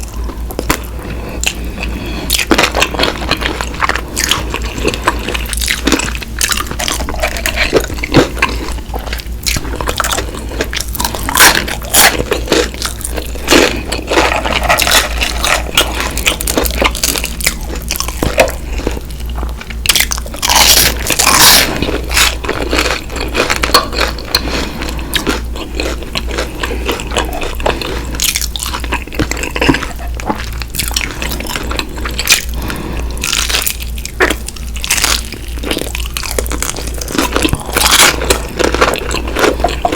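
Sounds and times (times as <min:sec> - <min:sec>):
crunching fried chicken: 0:00.0 - 0:39.9
steady low hum: 0:00.0 - 0:39.9
wet chewing: 0:00.0 - 0:39.9.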